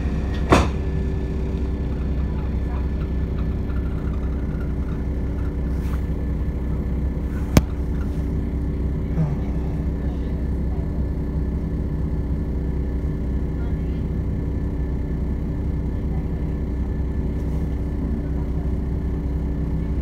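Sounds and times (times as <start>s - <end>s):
diesel train idling: 0.0s - 20.0s.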